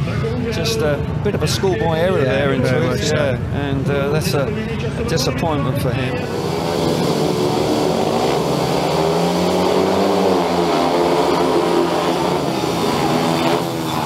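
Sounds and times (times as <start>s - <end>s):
motorcycles racing at full throttle: 0.0s - 14.0s.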